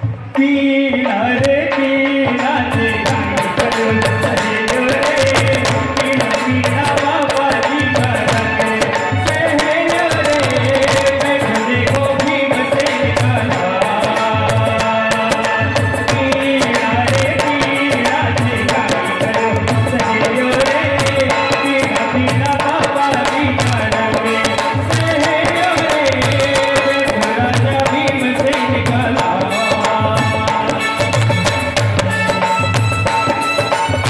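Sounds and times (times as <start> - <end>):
devotional music: 0.0 - 34.0
hand drum beat: 1.4 - 34.0.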